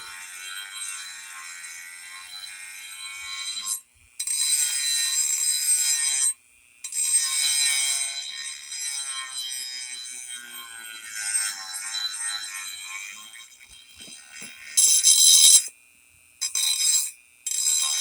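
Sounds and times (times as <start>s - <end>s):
rotary tool grinding steel blade: 0.0s - 15.8s, 16.4s - 18.0s.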